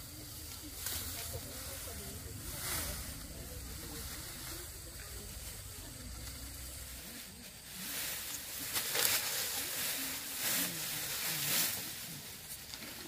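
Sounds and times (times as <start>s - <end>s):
rice stalks rustling: 0.0s - 13.0s.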